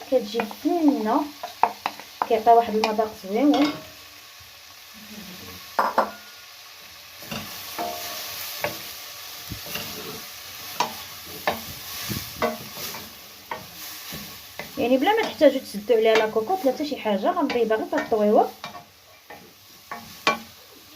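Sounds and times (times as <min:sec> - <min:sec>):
spoon scraping pan: 0:00.0 - 0:04.0, 0:07.2 - 0:20.6
leeks sizzling in butter: 0:00.0 - 0:20.9.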